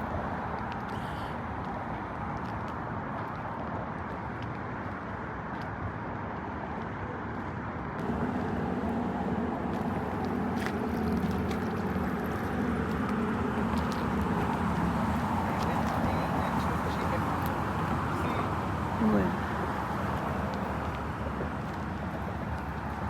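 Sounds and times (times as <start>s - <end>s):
vehicle engine hum: 0.0s - 23.0s.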